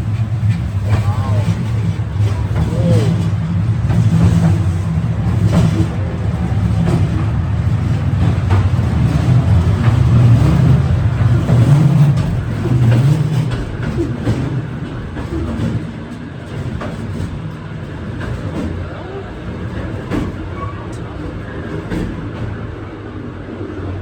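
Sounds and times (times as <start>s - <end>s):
railway carriage rumbling on track: 0.0s - 24.0s.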